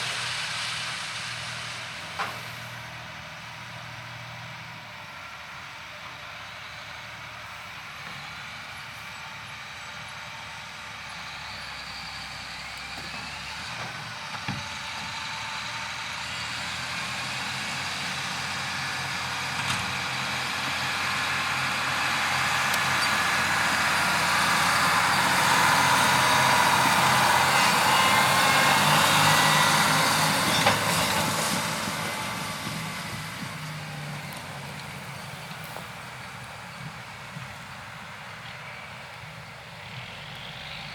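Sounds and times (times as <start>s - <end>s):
diesel harvest machinery running: 0.0s - 40.9s.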